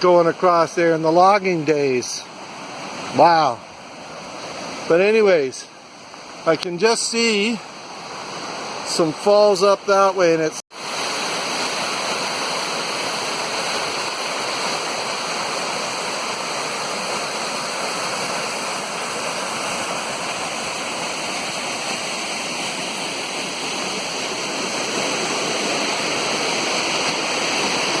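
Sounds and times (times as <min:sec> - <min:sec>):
creek water rushing over falls: 0:00.0 - 0:28.0.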